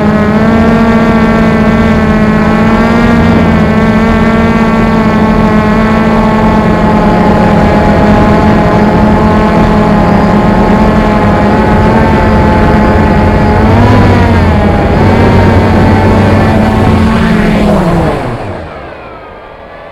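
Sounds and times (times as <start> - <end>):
quadcopter propellers droning: 0.0 - 19.9.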